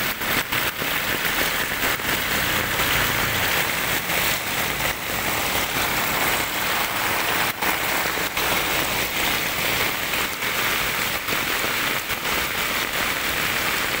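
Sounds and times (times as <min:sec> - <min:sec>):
heavy rain on asphalt road: 0:00.0 - 0:14.0.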